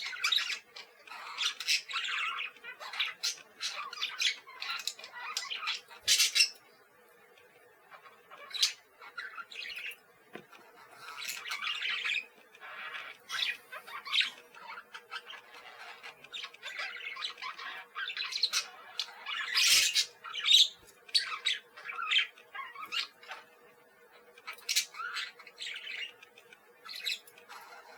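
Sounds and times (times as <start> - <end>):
parakeet squawking: 0.0 - 6.6, 7.9 - 10.0, 10.8 - 27.9.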